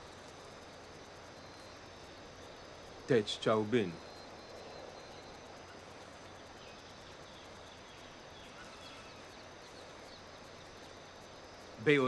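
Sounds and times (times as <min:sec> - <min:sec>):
faint high chirps: 0:00.0 - 0:12.0
steady low hiss: 0:00.0 - 0:12.0.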